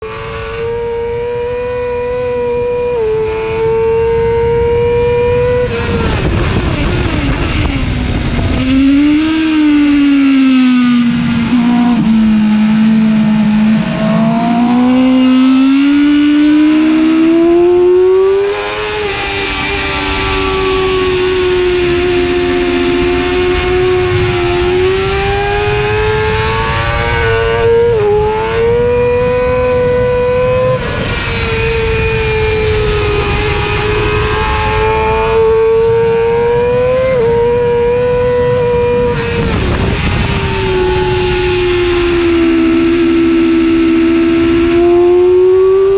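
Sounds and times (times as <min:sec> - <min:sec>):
wind on microphone: 0:00.6 - 0:45.9
motorcycle engine screaming: 0:05.4 - 0:45.9.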